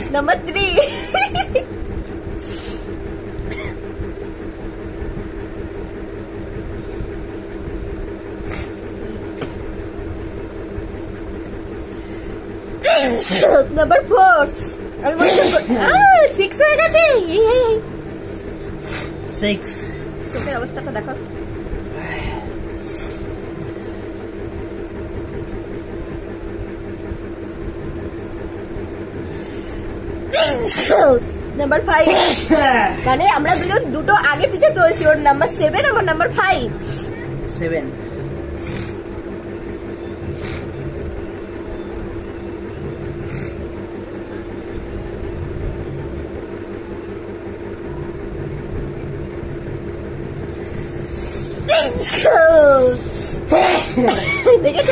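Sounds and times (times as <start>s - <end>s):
steady mechanical hum: 0.0s - 54.9s.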